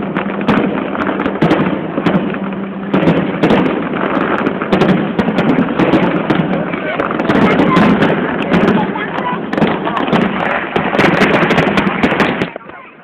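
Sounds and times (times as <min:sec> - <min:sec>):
continuous rumble: 0:00.0 - 0:13.0
fireworks bangs and crackling: 0:00.0 - 0:13.0.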